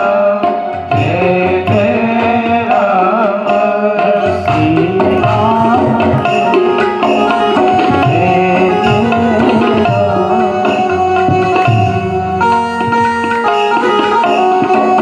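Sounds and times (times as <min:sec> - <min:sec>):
tabla playing a steady rhythm: 0:00.0 - 0:15.0
sustained melodic instrument: 0:00.9 - 0:15.0.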